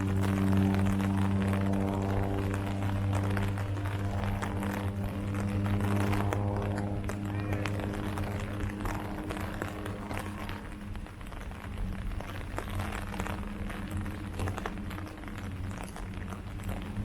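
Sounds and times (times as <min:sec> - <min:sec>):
rain falling on leaves: 0:00.0 - 0:17.0
steady low hum: 0:00.0 - 0:17.0.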